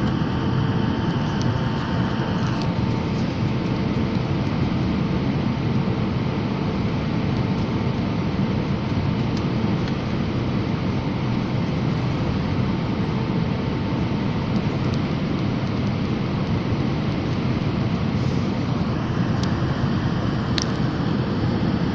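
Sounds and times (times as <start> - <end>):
airplane cabin engine roar: 0.0 - 21.9
faint steady hum: 0.0 - 21.9.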